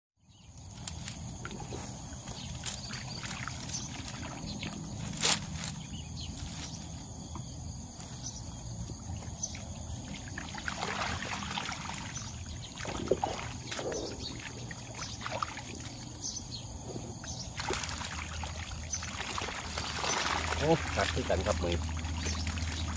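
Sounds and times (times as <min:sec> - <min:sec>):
insects chirring: 0:00.2 - 0:22.9
water splashing and sloshing: 0:00.5 - 0:22.9.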